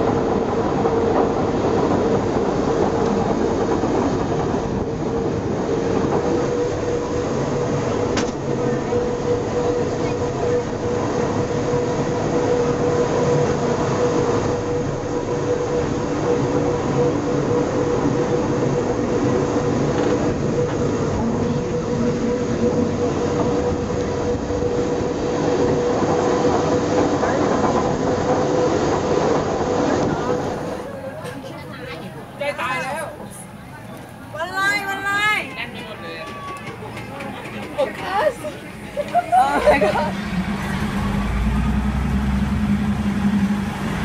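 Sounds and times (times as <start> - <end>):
railcar whine: 0.0 - 44.0
wheels rumbling on track: 0.0 - 44.0.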